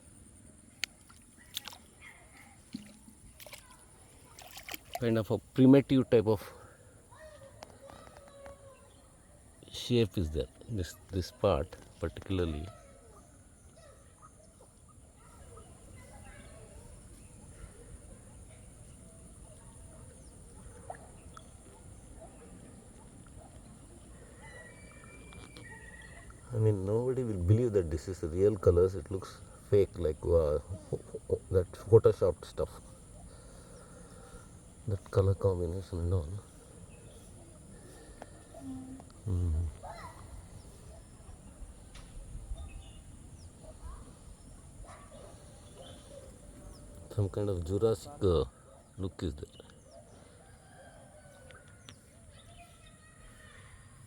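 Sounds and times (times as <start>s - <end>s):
faint bird chirps: 6.1s - 54.0s.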